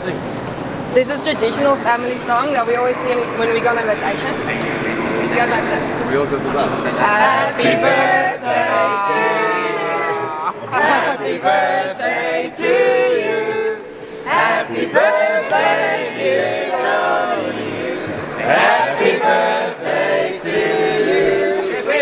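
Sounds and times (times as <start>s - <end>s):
group of people singing: 1.0s - 22.0s.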